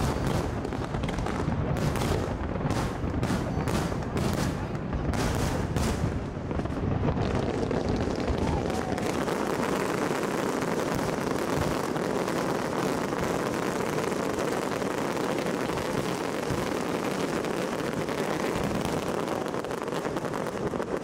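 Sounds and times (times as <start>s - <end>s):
fireworks bursts and crackles: 0.0s - 21.0s.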